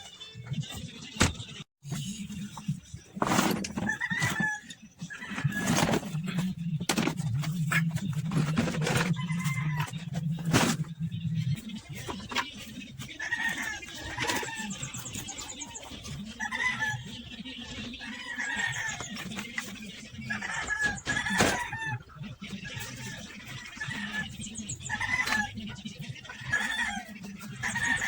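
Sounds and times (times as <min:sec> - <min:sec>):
chickens clucking: 0:02.2 - 0:28.0.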